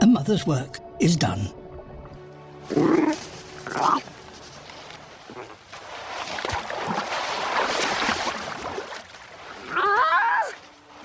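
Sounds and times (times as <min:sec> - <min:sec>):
water sloshing and lapping: 0:02.0 - 0:11.0.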